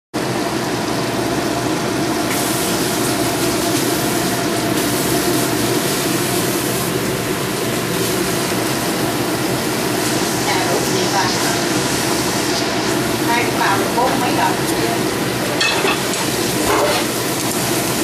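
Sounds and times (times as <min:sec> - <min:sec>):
oil sizzling: 0:00.2 - 0:18.0.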